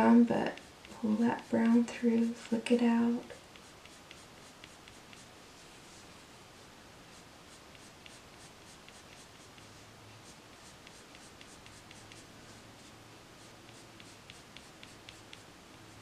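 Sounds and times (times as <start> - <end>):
colored pencil scratching on paper: 0.0 - 16.0.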